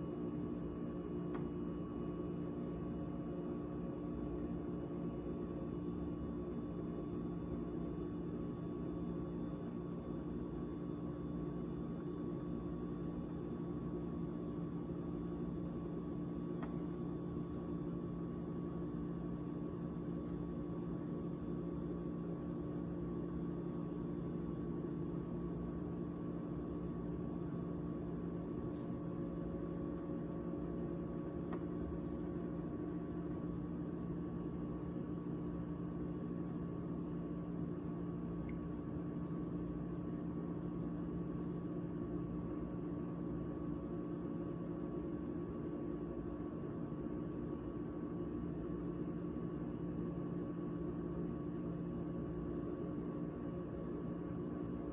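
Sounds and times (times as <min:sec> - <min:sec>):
refrigerator humming: 0:00.0 - 0:54.9.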